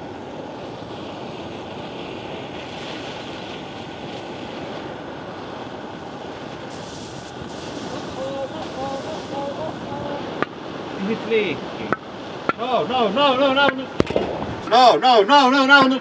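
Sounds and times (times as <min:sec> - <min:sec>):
gas burner flame roaring: 0:00.0 - 0:15.1.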